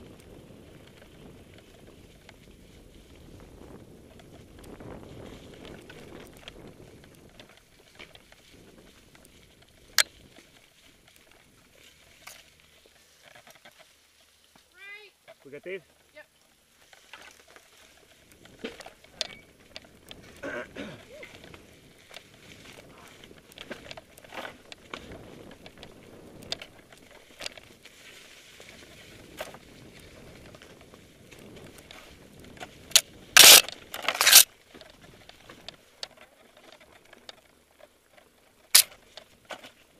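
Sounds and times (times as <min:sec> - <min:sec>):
bike tyres crunching on leaves: 0:00.0 - 0:39.9
small clicks and rattles: 0:00.0 - 0:39.9.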